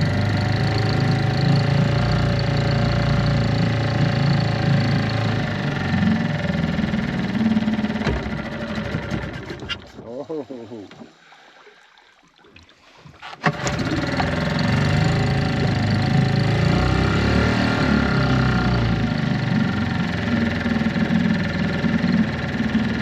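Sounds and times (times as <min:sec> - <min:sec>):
outboard motor starting and running: 0:00.0 - 0:23.0.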